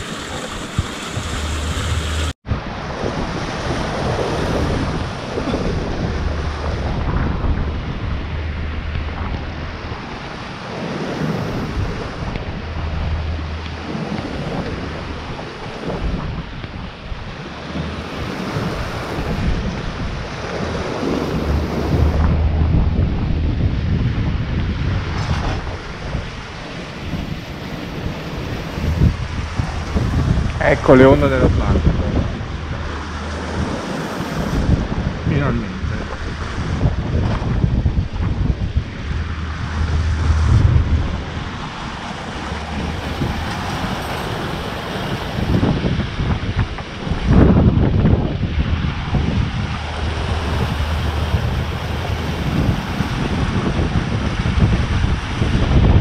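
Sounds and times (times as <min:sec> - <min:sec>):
water splashing along hull: 0:00.0 - 0:56.0
wind buffeting microphone: 0:00.0 - 0:56.0.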